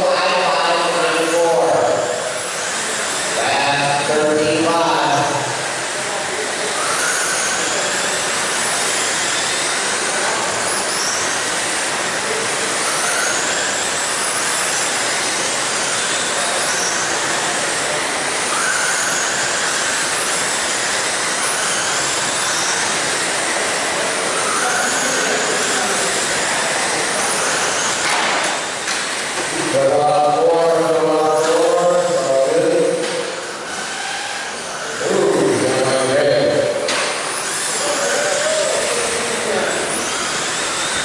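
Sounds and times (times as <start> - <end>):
electric motors whining: 0.0 - 41.0.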